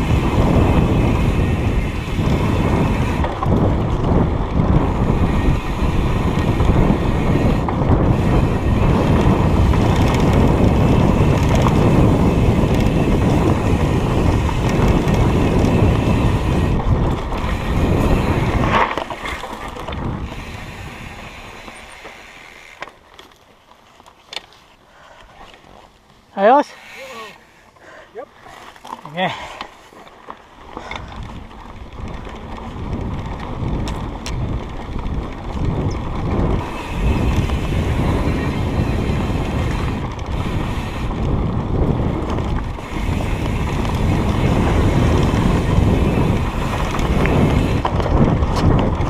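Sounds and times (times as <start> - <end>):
wind buffeting microphone: 0.0 - 22.0, 30.6 - 49.0
bike trail rumble: 0.0 - 49.0.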